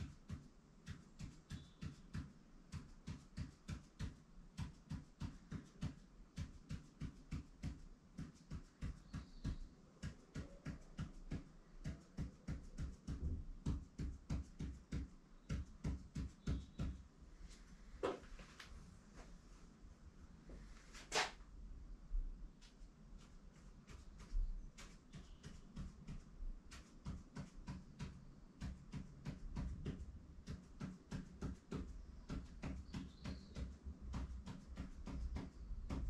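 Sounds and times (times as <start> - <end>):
pen tapping on paper: 0.0 - 17.0, 23.9 - 36.0.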